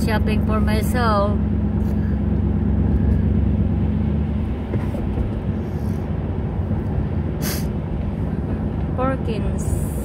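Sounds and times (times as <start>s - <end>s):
car interior road rumble: 0.0s - 10.0s.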